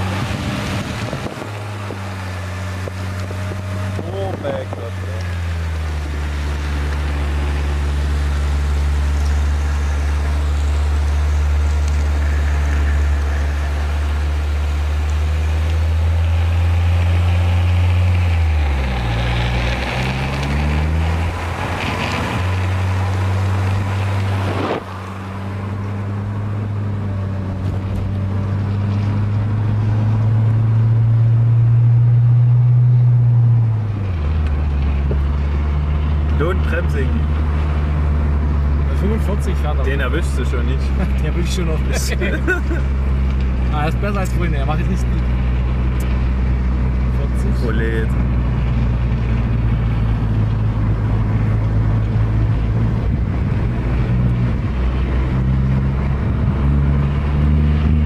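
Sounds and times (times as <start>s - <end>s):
car engine running: 0.0s - 58.0s
road and wind noise: 0.0s - 58.0s.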